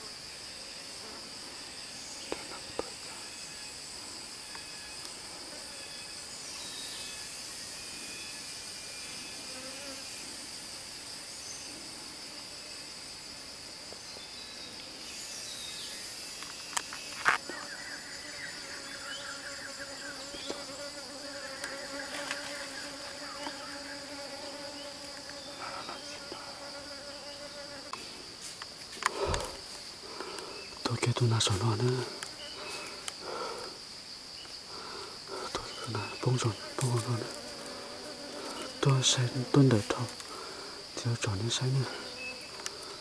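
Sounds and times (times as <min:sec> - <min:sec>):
droning insect buzz: 0:00.0 - 0:43.0
high-pitched insect chorus: 0:00.0 - 0:43.0.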